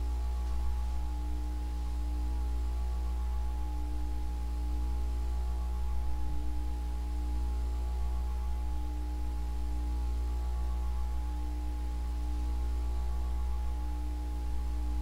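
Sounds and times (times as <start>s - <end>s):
ceiling fan motor humming: 0.0s - 15.0s
faint steady whine: 0.0s - 15.0s.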